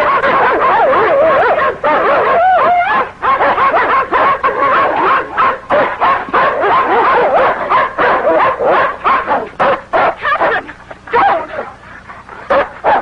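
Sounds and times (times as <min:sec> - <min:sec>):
dog snarling and barking: 0:00.0 - 0:13.0.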